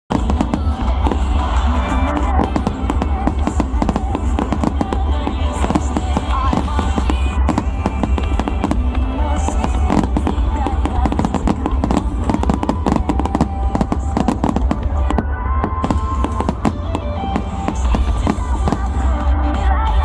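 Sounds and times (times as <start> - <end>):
fireworks bursts and crackles: 0.1 - 20.0
loud music: 0.1 - 20.0.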